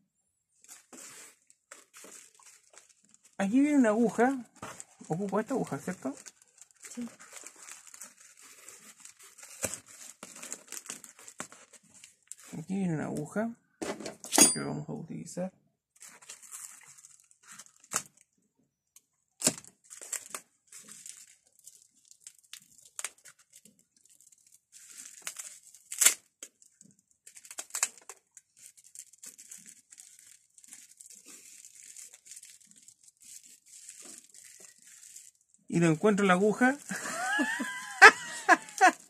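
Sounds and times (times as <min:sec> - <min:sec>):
paper wrapping crinkling and tearing: 0:00.6 - 0:12.8, 0:16.0 - 0:18.3, 0:19.4 - 0:39.0.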